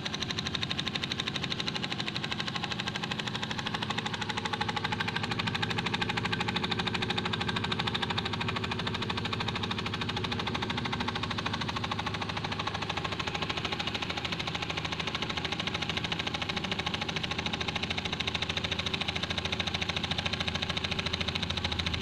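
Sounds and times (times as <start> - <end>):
small steam engine knocking: 0.0 - 22.0.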